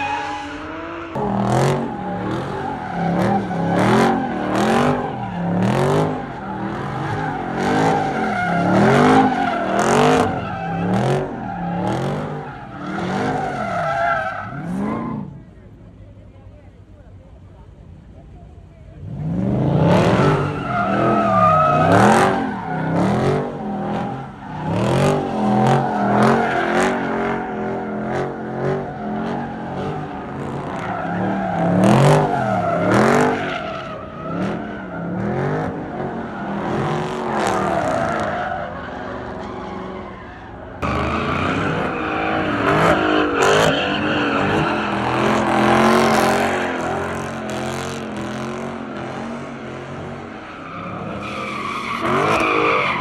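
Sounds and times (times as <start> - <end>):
tires squealing and skidding: 0.0 - 15.5, 19.2 - 53.0
car engine revving: 0.6 - 13.6, 19.0 - 40.1, 40.8 - 53.0.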